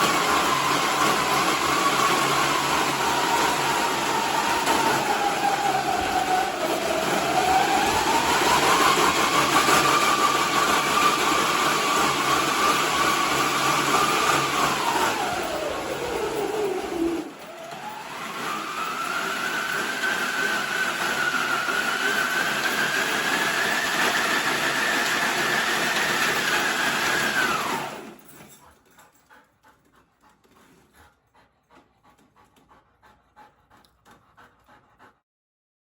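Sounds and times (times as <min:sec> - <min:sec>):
treadmill rumbling and whining: 0:00.0 - 0:28.9.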